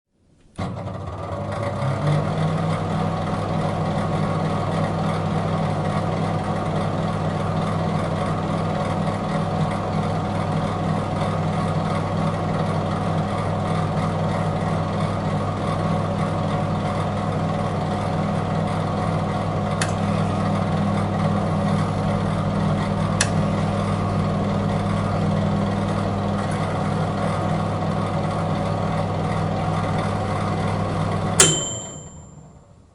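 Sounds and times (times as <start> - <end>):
microwave oven humming: 0.4 - 32.9.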